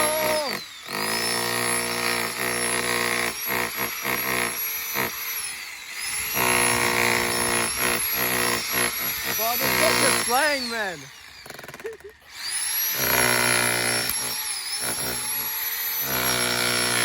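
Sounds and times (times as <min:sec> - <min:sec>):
electric jackhammer hammering: 0:00.0 - 0:17.0.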